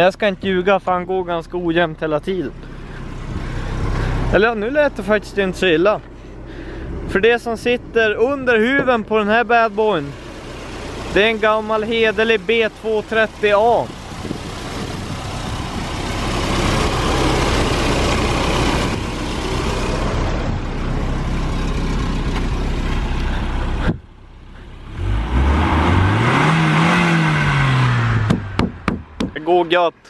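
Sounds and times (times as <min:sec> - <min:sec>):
car engine running: 0:00.0 - 0:30.0
engine revving: 0:01.5 - 0:29.4.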